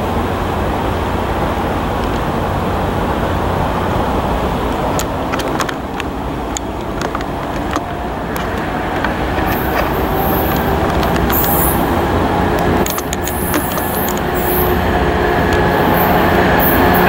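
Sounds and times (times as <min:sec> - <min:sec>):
high hiss: 0:00.0 - 0:17.0
train engine rumble: 0:00.0 - 0:17.0
wheels clicking on track: 0:00.0 - 0:17.0.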